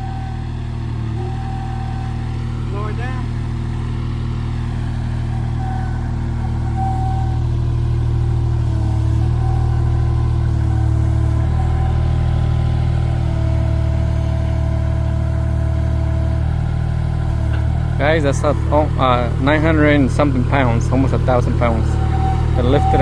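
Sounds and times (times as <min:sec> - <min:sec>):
higher steady tones: 0:00.0 - 0:23.0
loader engine running: 0:00.0 - 0:23.0.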